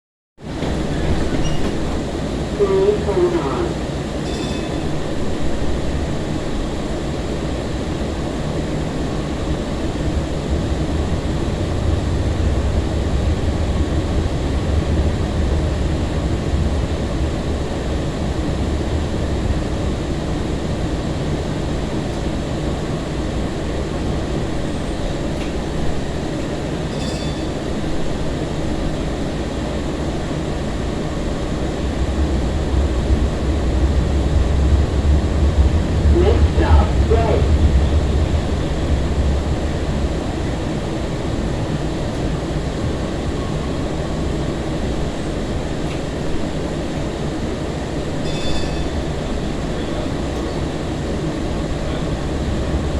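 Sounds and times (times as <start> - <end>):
rumble of train wheels: 0.4 - 52.9.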